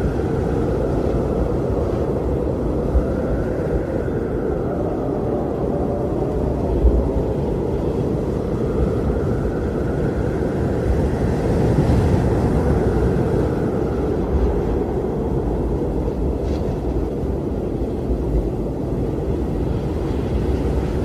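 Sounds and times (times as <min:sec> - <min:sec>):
blizzard wind howling: 0:00.0 - 0:21.0.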